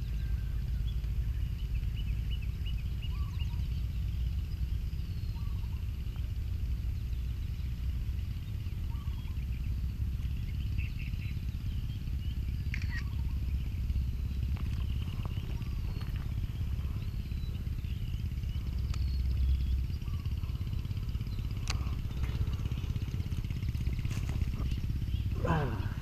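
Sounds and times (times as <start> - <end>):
faint bird chirps: 0.0 - 26.0
low outdoor rumble: 0.0 - 26.0.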